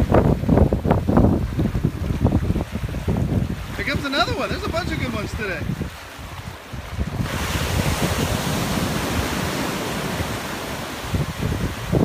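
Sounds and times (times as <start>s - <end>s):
ocean wave breaking: 0.0s - 12.0s.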